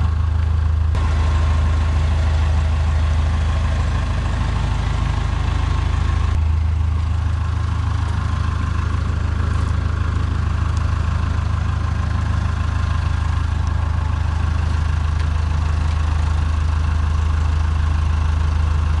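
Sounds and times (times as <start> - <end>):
forklift engine idling: 0.0 - 19.0.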